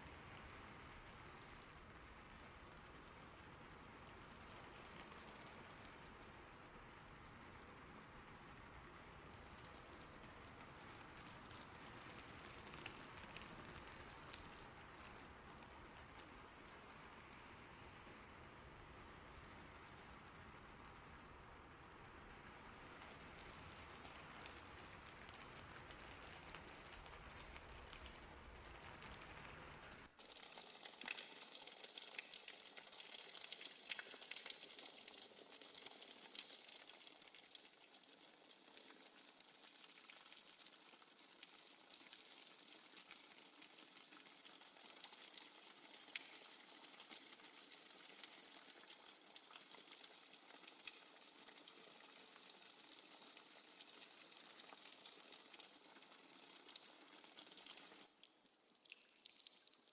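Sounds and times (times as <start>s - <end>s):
crackling hiss of water: 0.0s - 59.9s.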